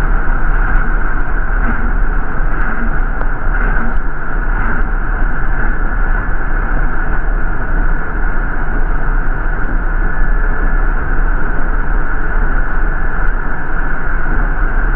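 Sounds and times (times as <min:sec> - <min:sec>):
bus engine and road noise: 0:00.0 - 0:14.9.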